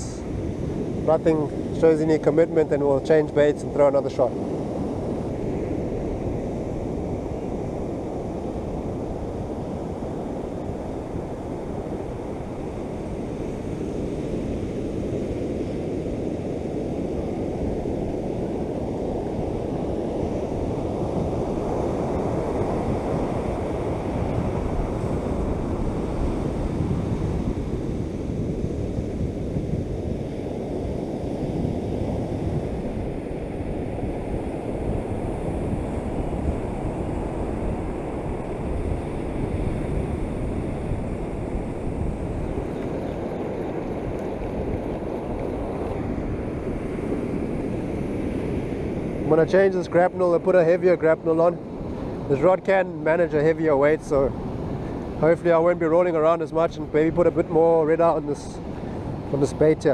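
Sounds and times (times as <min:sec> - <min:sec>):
waves breaking on beach: 0:00.0 - 0:59.9
wind buffeting microphone: 0:00.0 - 0:59.9.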